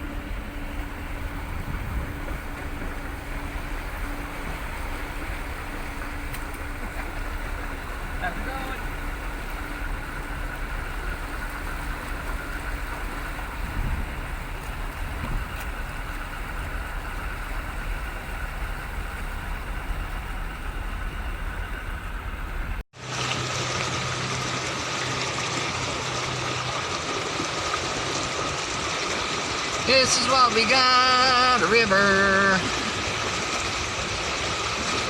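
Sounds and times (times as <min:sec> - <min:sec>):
engine low hum: 0:00.0 - 0:30.0
engine running steadily: 0:00.0 - 0:35.0.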